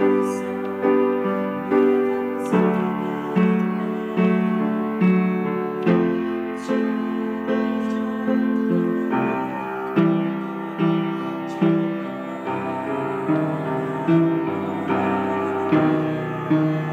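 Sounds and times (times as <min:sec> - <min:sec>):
slow piano melody: 0:00.0 - 0:16.9.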